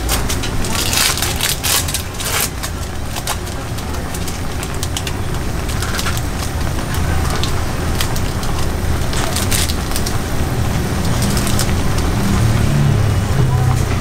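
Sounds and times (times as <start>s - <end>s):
sharp pops and crackles: 0.0s - 12.6s
broth boiling and bubbling: 0.0s - 14.0s.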